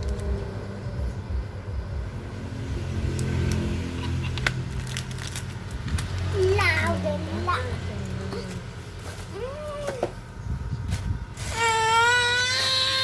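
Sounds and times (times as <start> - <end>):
low engine rumble: 0.0 - 11.8.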